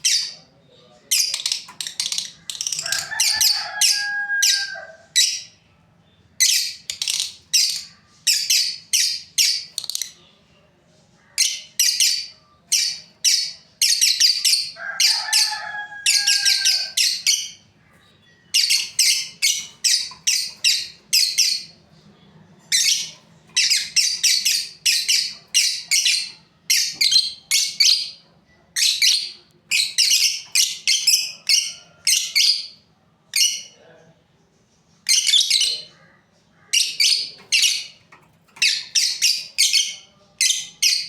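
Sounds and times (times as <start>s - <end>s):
lovebirds chirping: 0.0s - 41.0s.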